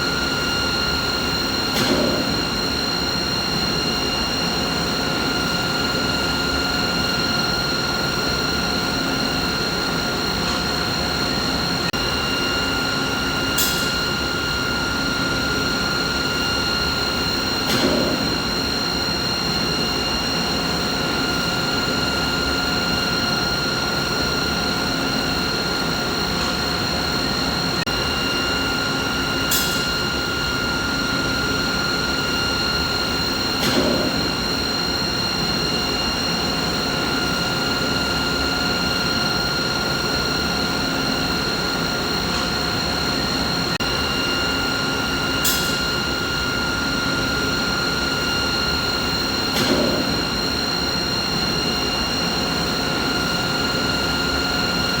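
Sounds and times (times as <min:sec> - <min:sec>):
machinery hum with whine: 0:00.0 - 0:55.0.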